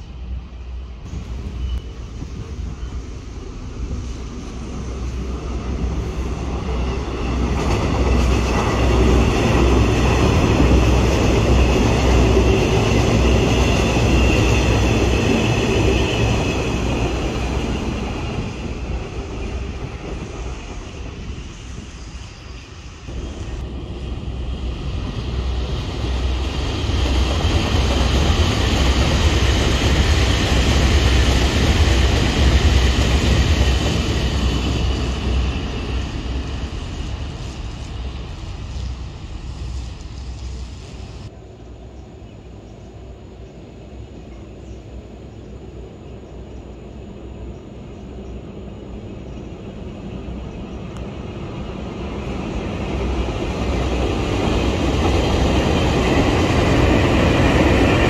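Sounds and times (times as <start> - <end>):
trains rumbling past: 0.0 - 58.0.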